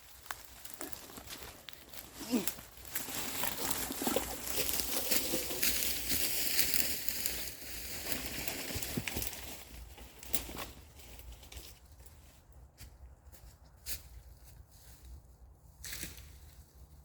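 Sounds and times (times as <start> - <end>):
dry leaves and brush rustling: 0.0 - 17.0.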